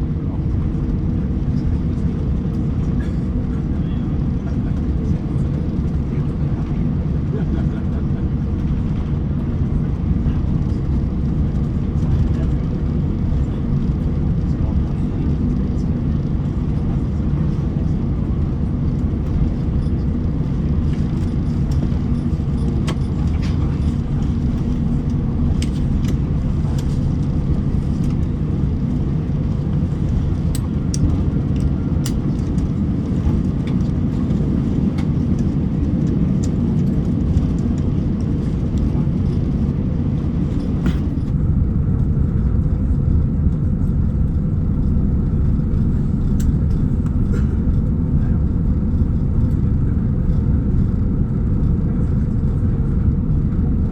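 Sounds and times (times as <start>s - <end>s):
aircraft engine rumble: 0.0s - 53.9s.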